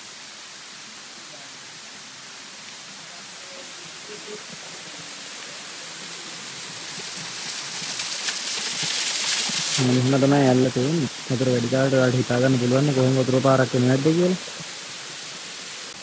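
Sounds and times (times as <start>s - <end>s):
waterfall splashing into pool: 0.0s - 16.0s.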